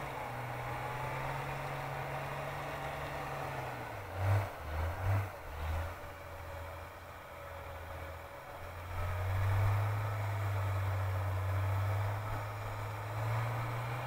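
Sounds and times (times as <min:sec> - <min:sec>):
car engine revving: 0:00.0 - 0:06.8, 0:08.6 - 0:14.0.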